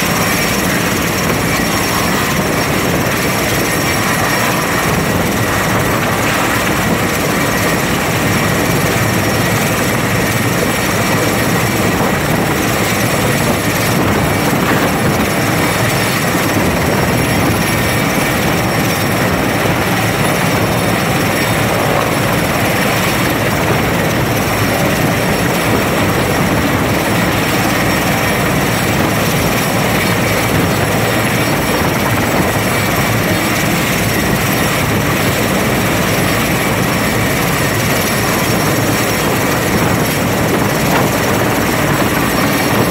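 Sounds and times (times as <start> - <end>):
helicopter rotors and engines: 0.0 - 42.9.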